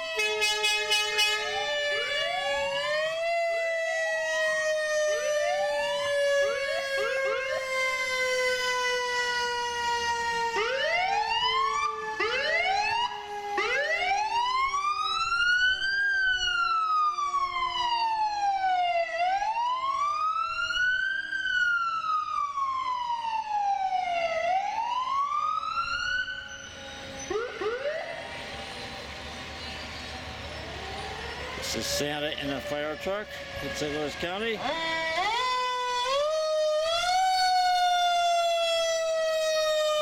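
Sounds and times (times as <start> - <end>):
siren wailing: 0.0 - 40.0
siren whoops: 0.0 - 40.0
steady siren tone sliding down: 0.0 - 40.0.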